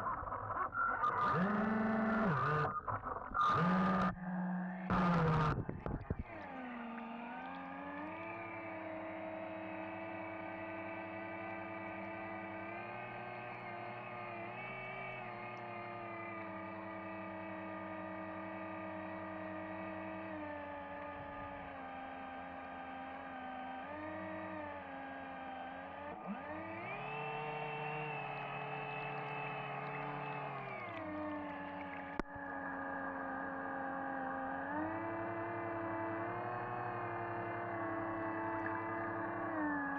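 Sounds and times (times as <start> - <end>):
electric motor whining: 1.1 - 2.7, 3.4 - 39.9.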